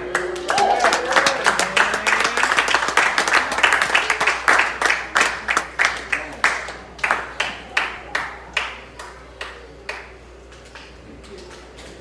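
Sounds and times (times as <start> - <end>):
audience clapping in time: 0.0 - 11.7.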